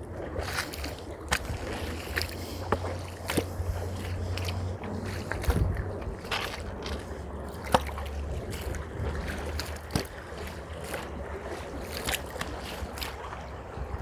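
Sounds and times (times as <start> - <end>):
wind buffeting microphone: 0.0 - 14.0
footsteps crunching on trail: 0.4 - 13.2.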